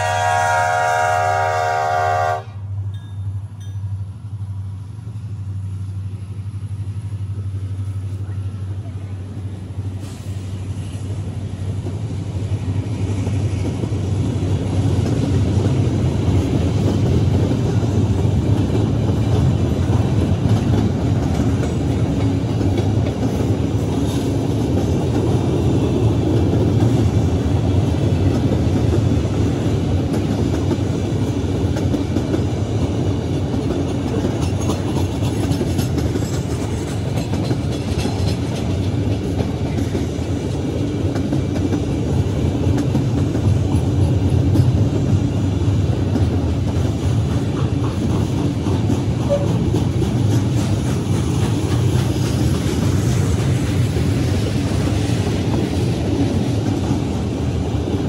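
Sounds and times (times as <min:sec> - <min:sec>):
freight train wheels clattering: 0:05.0 - 0:58.0.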